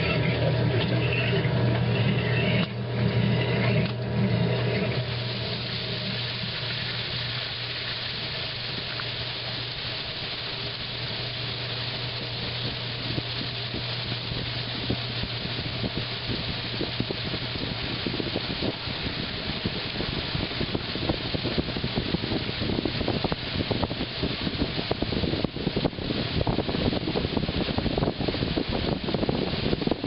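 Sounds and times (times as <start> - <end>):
washing machine motor hum: 0.0 - 30.0
water swishing in tub: 0.0 - 30.0.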